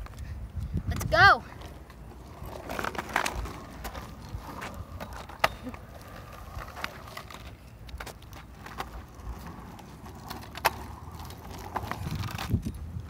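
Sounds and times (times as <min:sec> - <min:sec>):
scooter wheels rolling on asphalt: 0:00.0 - 0:13.0.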